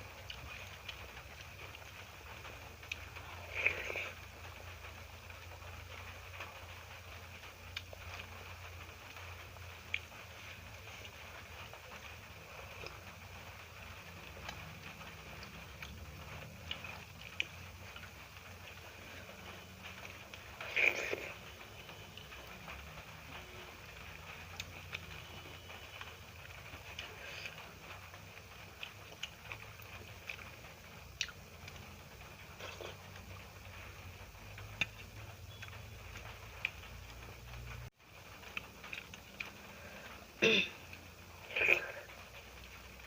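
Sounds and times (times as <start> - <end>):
wet chewing: 0.0 - 4.6, 9.8 - 36.9, 38.4 - 43.0
low steady hum: 0.0 - 43.0.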